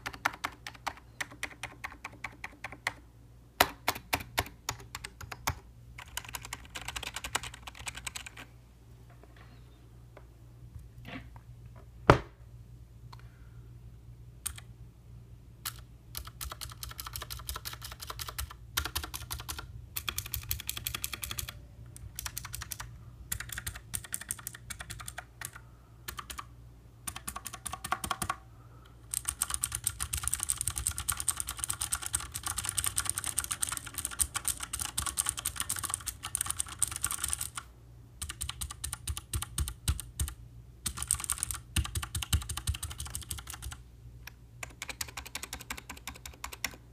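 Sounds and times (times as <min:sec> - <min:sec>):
typing on computer keyboard: 0:00.0 - 0:03.0, 0:03.6 - 0:08.5, 0:14.4 - 0:14.7, 0:15.6 - 0:28.4, 0:29.1 - 0:43.8, 0:44.6 - 0:46.8.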